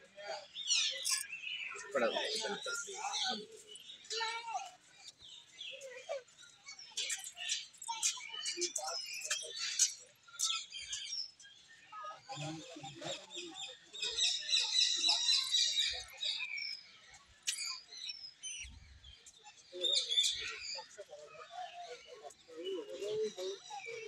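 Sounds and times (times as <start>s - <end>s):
faint voices of people: 0.0s - 24.0s
small birds chirping: 0.0s - 24.0s.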